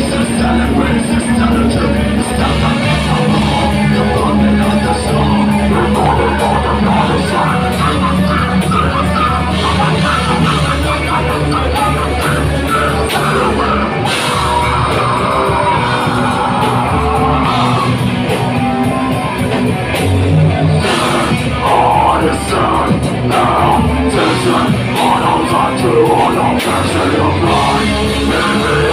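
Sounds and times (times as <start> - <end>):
person growling vocals: 0.0 - 19.0, 20.5 - 28.9
bass guitar: 0.0 - 28.9
distorted electric guitar: 0.0 - 28.9
drum kit: 0.0 - 28.9.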